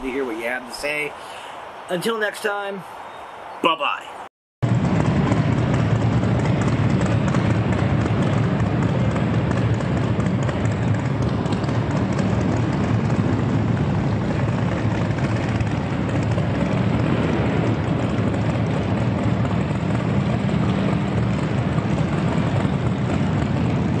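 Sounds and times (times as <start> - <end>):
motorcycle engines echoing: 4.7 - 24.0.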